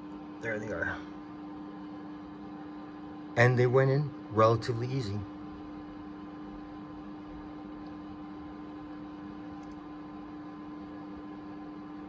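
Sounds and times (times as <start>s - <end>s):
background hum with faint hiss: 0.0s - 12.0s.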